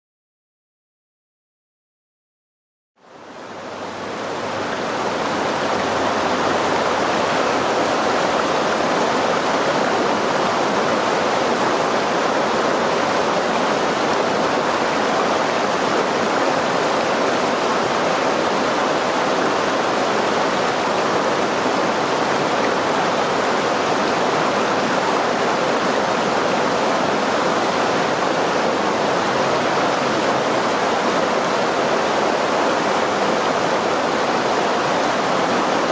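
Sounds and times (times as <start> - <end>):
stream flowing over rocks: 3.0 - 35.9.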